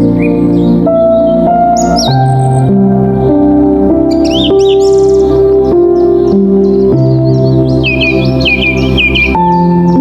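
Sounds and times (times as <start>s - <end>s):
birds chirping: 0.0s - 10.0s
calm keyboard music: 0.0s - 10.0s.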